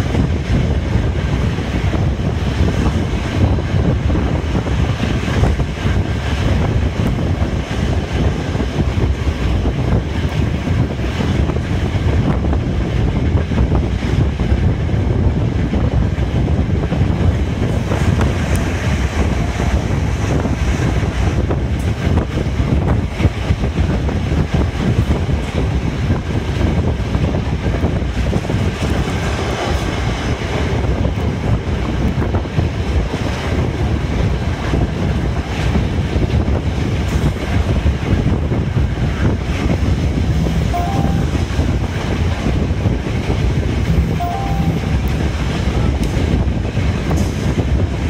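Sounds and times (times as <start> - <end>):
rushing air: 0.0 - 48.0
train wheels rumbling on rails: 0.0 - 48.0.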